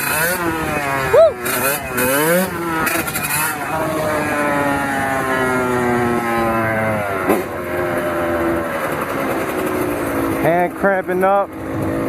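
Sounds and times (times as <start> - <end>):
dirt bike engine at high revs: 0.0 - 12.0.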